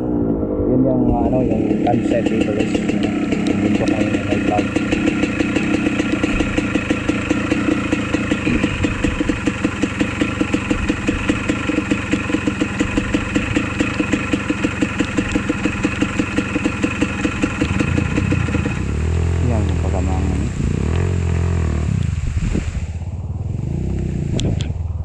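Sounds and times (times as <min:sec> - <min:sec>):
dirt bike engine idling: 0:00.8 - 0:25.0.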